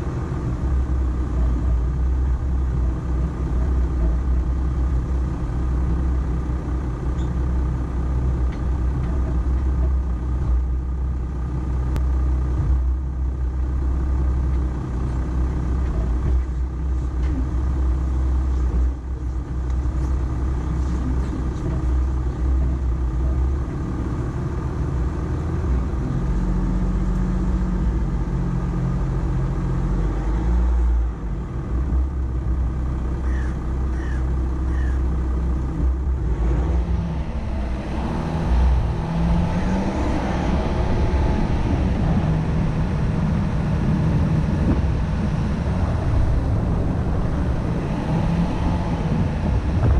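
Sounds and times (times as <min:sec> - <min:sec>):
pickup engine deep rumble: 0:00.0 - 0:49.9.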